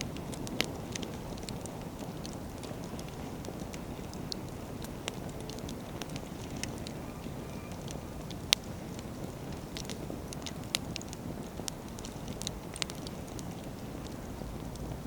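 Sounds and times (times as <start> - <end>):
campfire crackling: 0.0 - 15.0
firewood popping: 0.0 - 15.0
steady low rumble: 0.0 - 15.0.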